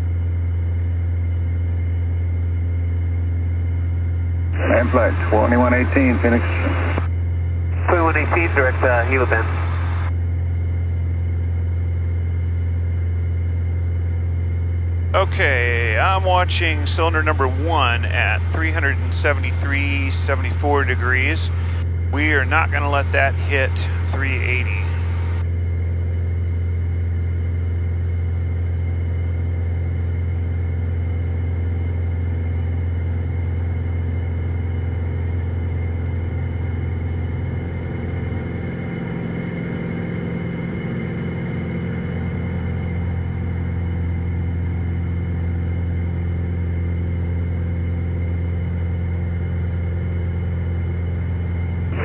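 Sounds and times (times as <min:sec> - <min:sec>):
propeller plane engine drone: 0:00.0 - 0:52.0.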